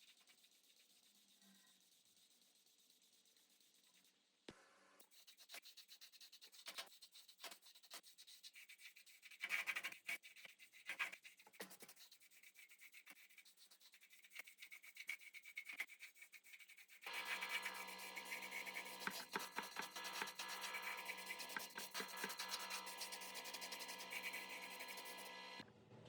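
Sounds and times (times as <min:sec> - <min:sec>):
rapid hand scraping strokes: 0:00.0 - 0:04.1, 0:05.1 - 0:25.6.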